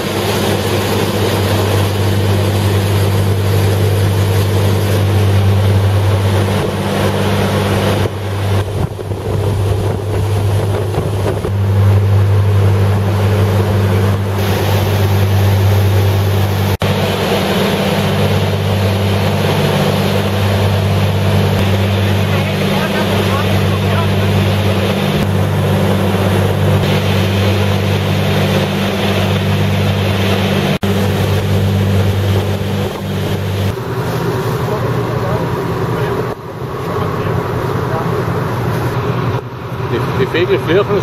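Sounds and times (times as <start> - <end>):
wind on microphone: 0.0 - 34.7
outboard motor drone: 0.0 - 41.0
rushing water: 0.0 - 41.0.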